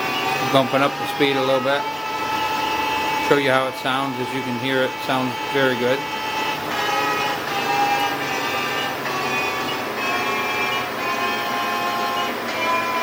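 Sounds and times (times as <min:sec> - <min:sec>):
lathe spindle running: 0:00.0 - 0:13.0.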